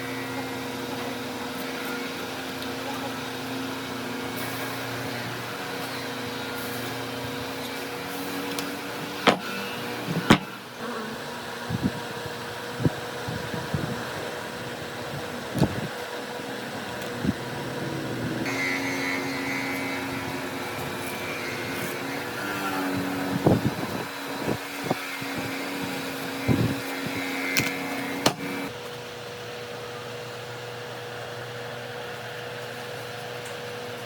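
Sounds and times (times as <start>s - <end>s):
electric motor whining: 0.0s - 28.7s
fan-like hum: 0.0s - 34.0s.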